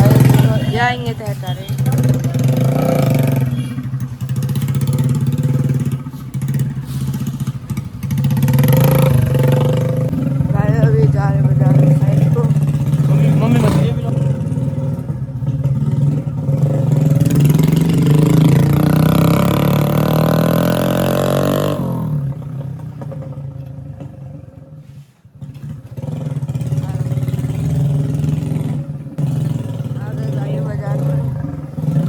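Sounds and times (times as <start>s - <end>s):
motorcycle engine riding: 0.0s - 32.0s.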